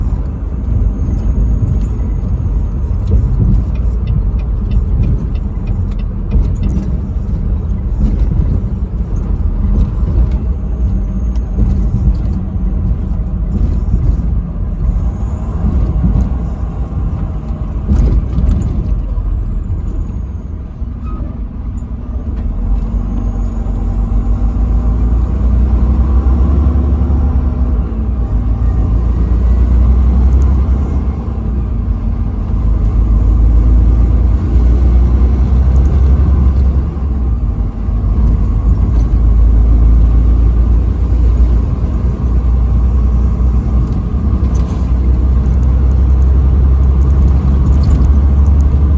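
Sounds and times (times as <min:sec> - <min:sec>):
truck engine and road rumble: 0:00.0 - 0:48.9.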